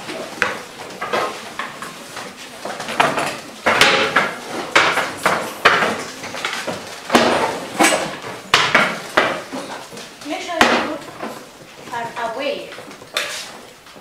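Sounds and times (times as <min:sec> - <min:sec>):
papers and books rustling: 0:00.0 - 0:14.0.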